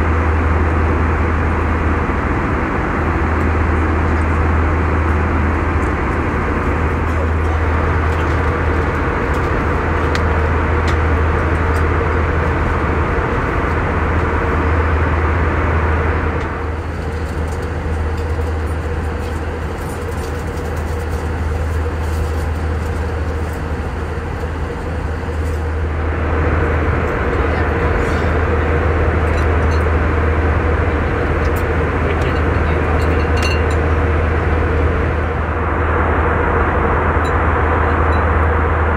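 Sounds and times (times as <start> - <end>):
engine and airflow rush: 0.0 - 38.9
low cabin hum: 0.0 - 38.9.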